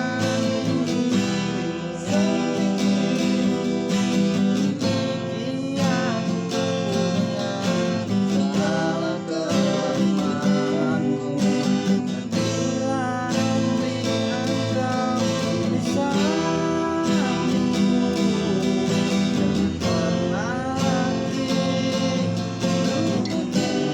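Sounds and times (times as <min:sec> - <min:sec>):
acoustic guitar strumming: 0:00.0 - 0:23.9
sliding guitar melody: 0:00.0 - 0:23.9.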